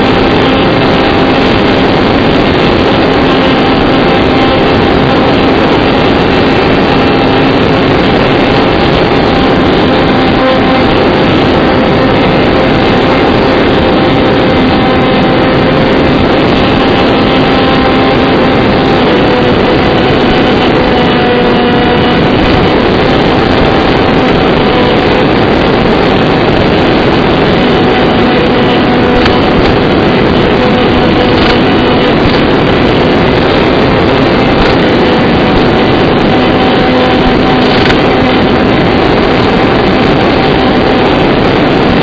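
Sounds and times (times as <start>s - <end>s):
electric motor and propeller humming: 0.0s - 42.0s
wind rushing over microphone: 0.0s - 42.0s.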